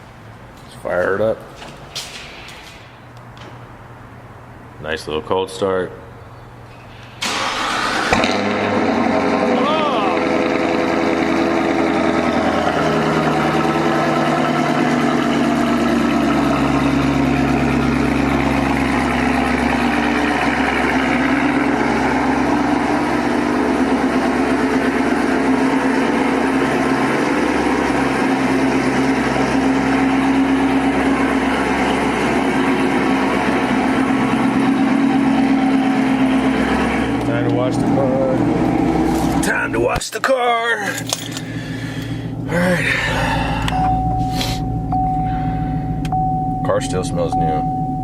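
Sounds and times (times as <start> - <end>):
car engine idling: 6.1 - 48.0.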